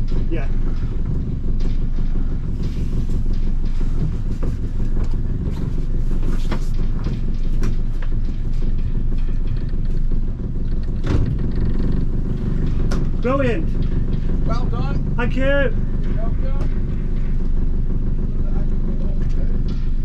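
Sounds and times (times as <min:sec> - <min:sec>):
outboard engine idling: 0:00.0 - 0:20.0.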